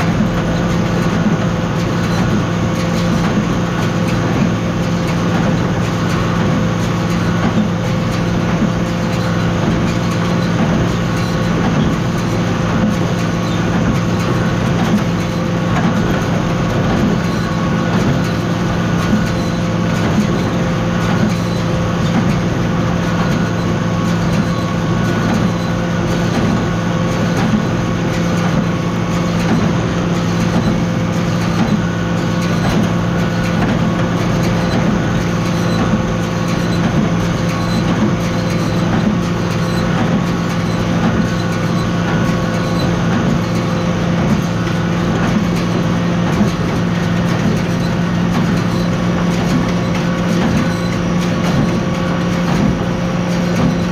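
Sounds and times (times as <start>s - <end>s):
baler working: 0.0s - 53.9s
tractor engine droning: 0.0s - 53.9s.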